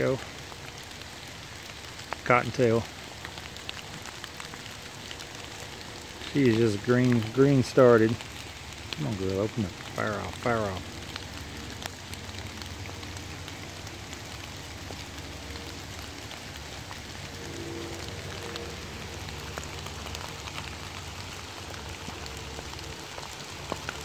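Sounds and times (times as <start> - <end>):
rain falling on leaves: 0.0 - 24.0.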